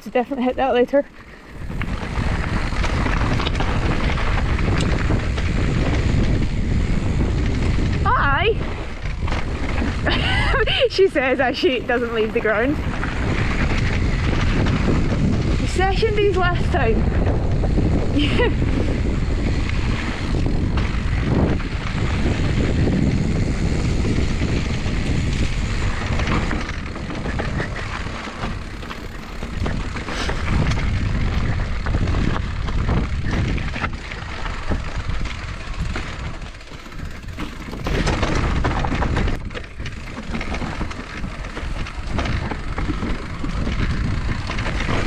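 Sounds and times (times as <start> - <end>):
tyres rumbling on dirt: 0.0 - 45.0
wind on camera: 0.0 - 45.0
bike knocks and rattles: 1.5 - 45.0.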